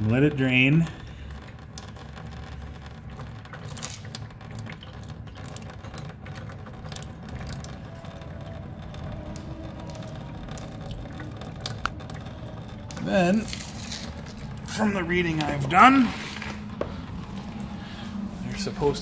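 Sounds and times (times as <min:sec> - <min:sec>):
liquid splashing into plastic pan: 0:00.7 - 0:18.5.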